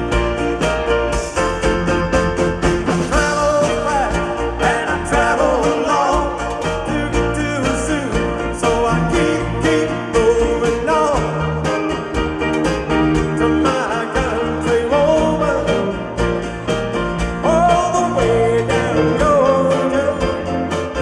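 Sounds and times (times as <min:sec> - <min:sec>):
country-rock band music: 0:00.0 - 0:21.0.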